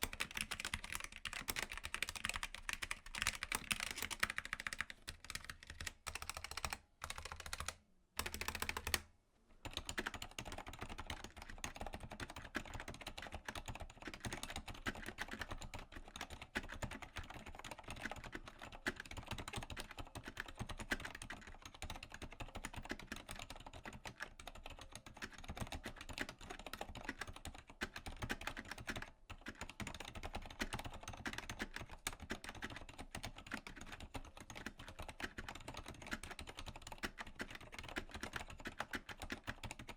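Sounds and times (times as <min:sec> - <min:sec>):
fast typing on mechanical keyboard: 0:00.0 - 0:09.0, 0:09.6 - 0:39.9.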